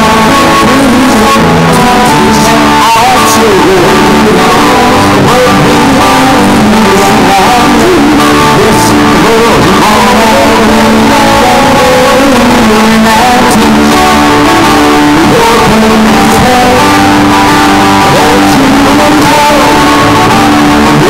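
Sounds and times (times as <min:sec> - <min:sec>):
acoustic guitars strummed: 0:00.0 - 0:21.0
electric bass guitar: 0:00.0 - 0:21.0.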